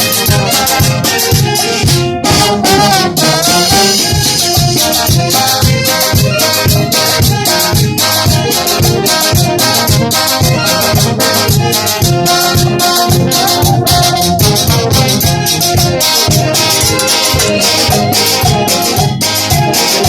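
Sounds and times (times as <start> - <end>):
horns playing melody: 0.0 - 20.0
steady drum beat: 0.0 - 20.0.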